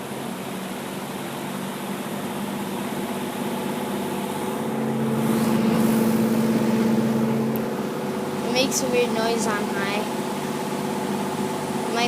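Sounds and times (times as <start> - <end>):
box fan humming: 0.0 - 12.0.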